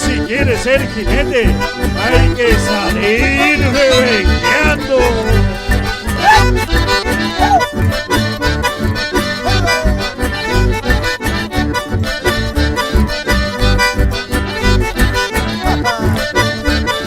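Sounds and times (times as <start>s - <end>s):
accordion playing lively tune: 0.0s - 17.0s
pulsing bass beat: 0.0s - 17.0s.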